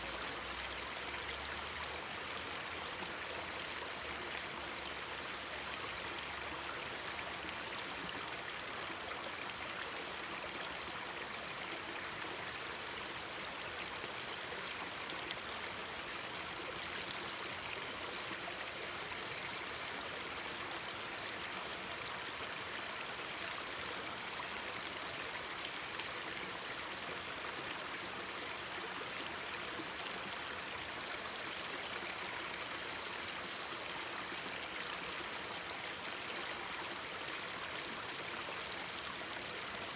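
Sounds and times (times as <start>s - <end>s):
stream babbling over rocks: 0.2s - 39.9s.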